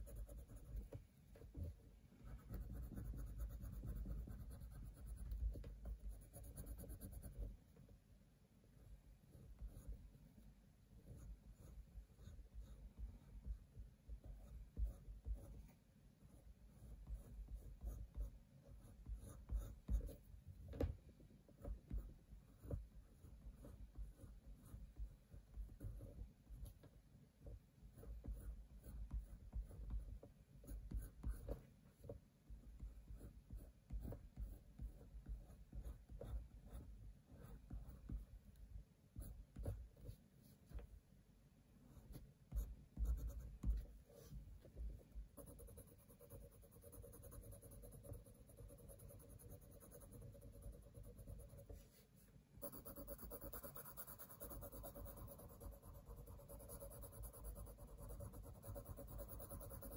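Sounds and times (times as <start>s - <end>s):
pencil scratching on paper: 0.0s - 7.6s, 9.3s - 10.2s, 11.0s - 20.3s, 21.5s - 26.9s, 27.8s - 32.2s, 32.8s - 38.3s, 41.9s - 59.9s.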